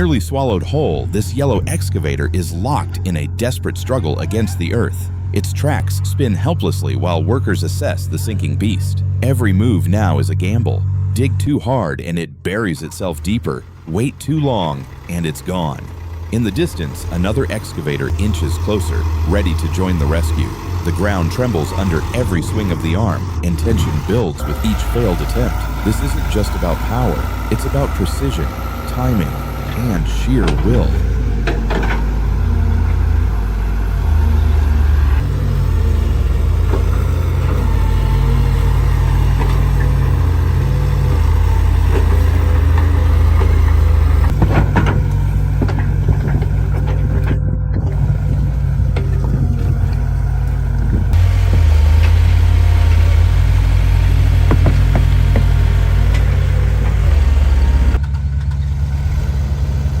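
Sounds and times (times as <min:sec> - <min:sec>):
excavator diesel engines: 0:00.0 - 1:00.0.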